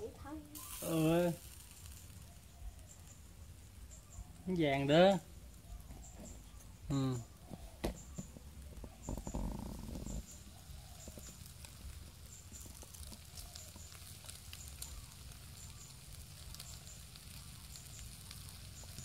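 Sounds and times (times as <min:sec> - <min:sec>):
charcoal crackling and popping: 0:00.0 - 0:19.0
rustle: 0:00.0 - 0:19.0.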